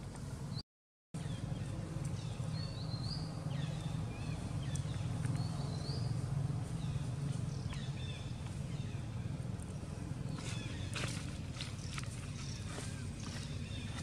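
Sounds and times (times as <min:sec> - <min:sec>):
steady low hum: 0:01.2 - 0:14.0.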